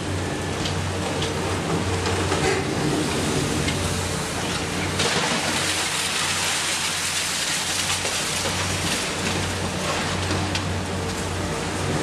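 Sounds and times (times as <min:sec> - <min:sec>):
diesel excavator engines: 0:00.0 - 0:12.0.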